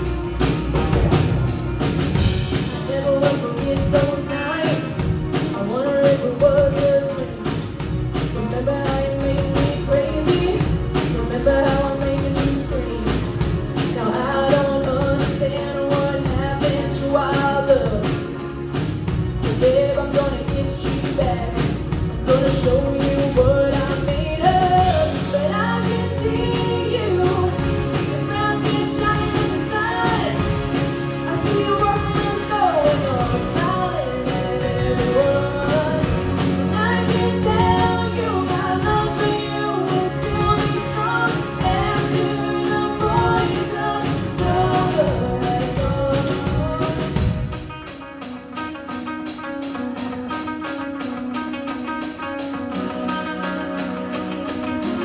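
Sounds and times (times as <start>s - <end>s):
person singing: 0.0s - 18.8s, 19.4s - 48.0s
band playing steady beat: 0.0s - 55.0s
guitar: 0.0s - 55.0s.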